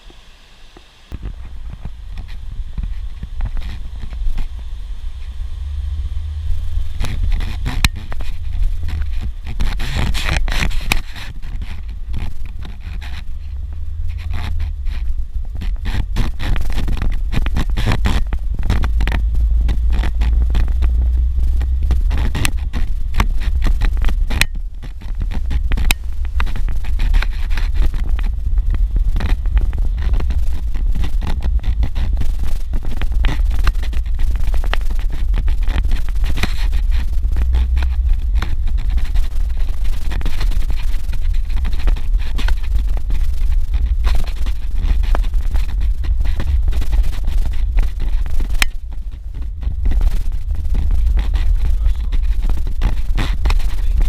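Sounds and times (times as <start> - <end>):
gravel scraping and rattling: 0.0 - 54.0
vehicle engine rumble: 0.0 - 54.0.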